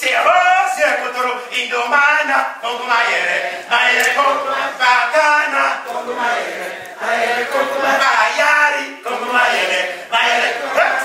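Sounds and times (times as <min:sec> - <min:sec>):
man chanting: 0:00.0 - 0:05.9, 0:07.9 - 0:11.0.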